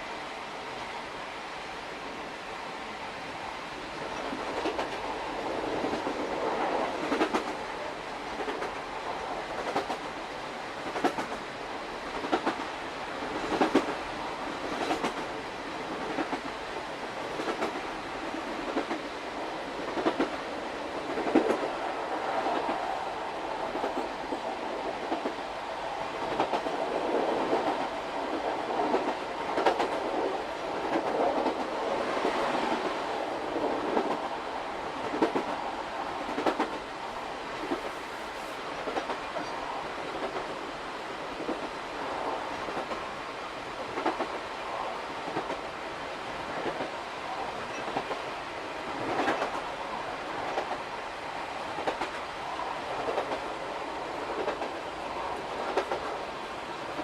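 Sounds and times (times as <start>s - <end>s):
train carriage rumble: 0.0s - 57.0s.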